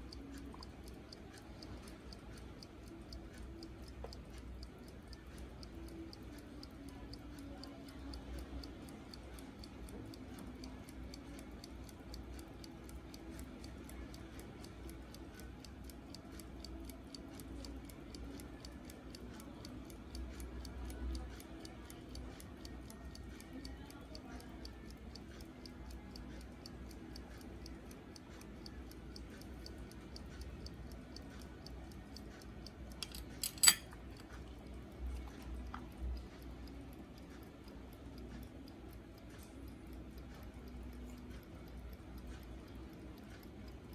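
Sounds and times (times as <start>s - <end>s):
pocket watch ticking: 0.0s - 43.9s.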